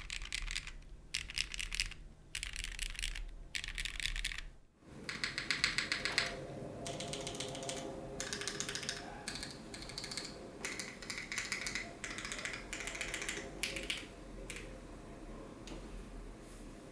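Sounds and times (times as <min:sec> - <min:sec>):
mechanical keyboard keys clacking: 0:00.0 - 0:04.5, 0:05.1 - 0:14.7.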